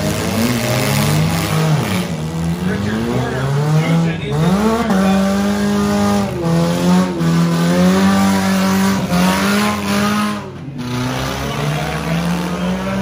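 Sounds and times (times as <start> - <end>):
car engines revving hard: 0.0 - 13.0
cars ramming each other: 0.0 - 13.0.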